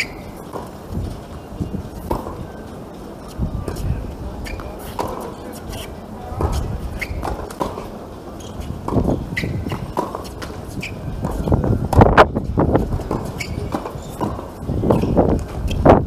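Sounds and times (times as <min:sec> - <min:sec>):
tennis ball bouncing: 0:00.0 - 0:02.4, 0:04.4 - 0:15.8
rackets striking tennis ball: 0:00.0 - 0:02.5, 0:04.5 - 0:15.8
footsteps on hard court: 0:00.0 - 0:15.8.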